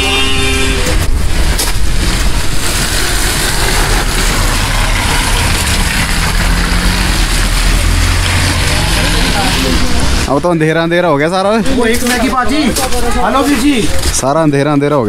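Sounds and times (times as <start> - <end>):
vehicle engines rumbling on road: 0.0 - 15.0.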